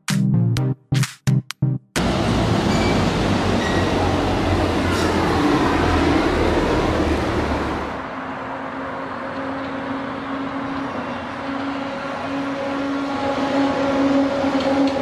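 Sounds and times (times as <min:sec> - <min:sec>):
maglev train rushing hum with whine: 0:02.0 - 0:15.0.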